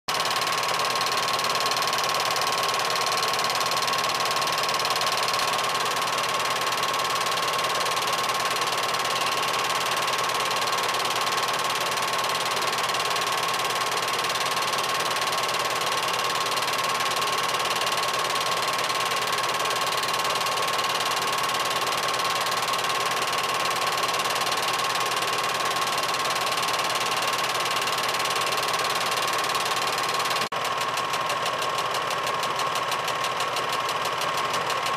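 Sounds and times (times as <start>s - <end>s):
film projector whirring: 0.1s - 34.9s.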